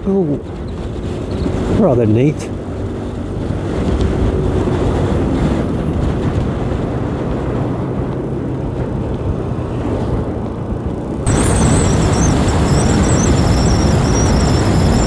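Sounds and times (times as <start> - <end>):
motorcycle engine hum: 0.0 - 15.0
wind rush over microphone: 0.0 - 15.0.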